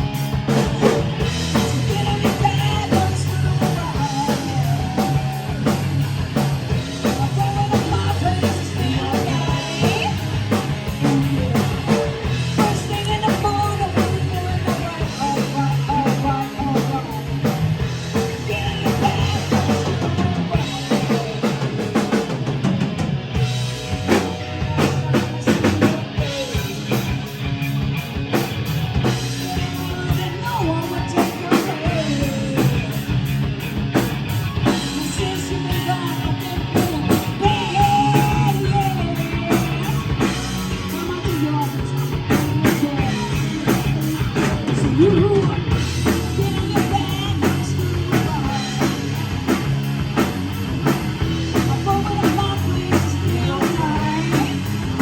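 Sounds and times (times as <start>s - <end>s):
person singing: 0.0s - 6.0s, 6.7s - 22.4s, 24.1s - 27.2s, 29.3s - 33.2s, 34.5s - 49.3s, 50.8s - 55.0s
bass guitar: 0.0s - 55.0s
drum kit: 0.0s - 55.0s
electric guitar: 0.0s - 55.0s.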